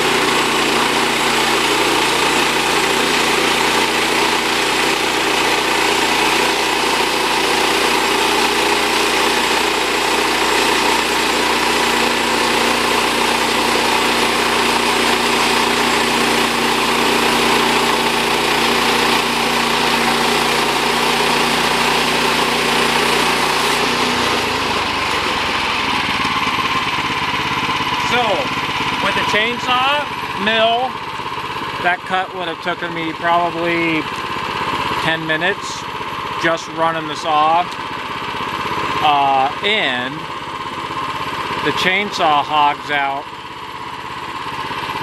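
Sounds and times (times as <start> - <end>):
bandsaw cutting log: 0.0 - 45.0.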